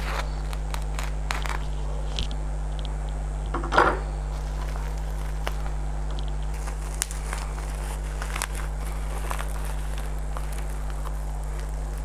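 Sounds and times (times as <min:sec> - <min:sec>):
plastic packaging crinkling: 0:00.0 - 0:12.0
steady low hum: 0:00.0 - 0:12.0.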